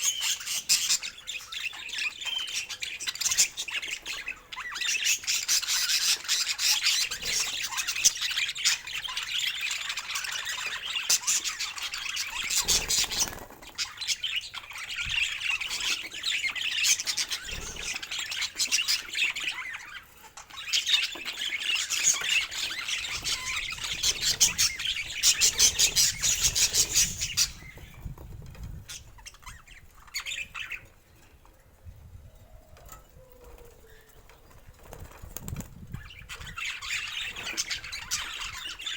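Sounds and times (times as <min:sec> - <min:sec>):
budgerigars chattering and squawking: 0:00.0 - 0:31.0, 0:35.8 - 0:38.9.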